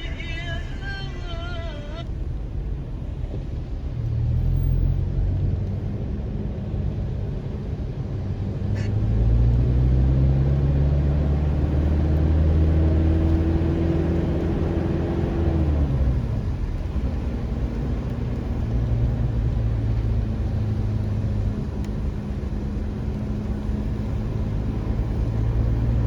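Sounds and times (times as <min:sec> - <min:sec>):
car engine: 0:00.0 - 0:26.0
road rumble: 0:00.0 - 0:26.0.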